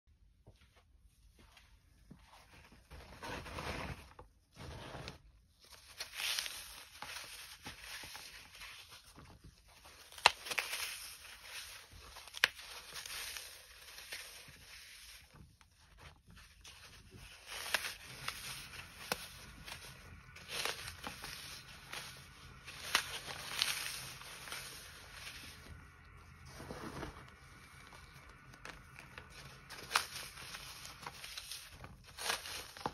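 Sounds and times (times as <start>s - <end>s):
dry foam crunching: 3.1s - 32.9s.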